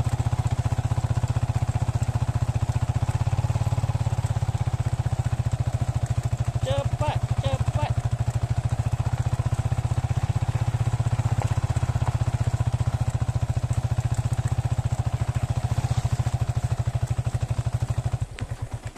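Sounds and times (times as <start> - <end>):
motorcycle engine putter: 0.1 - 18.9.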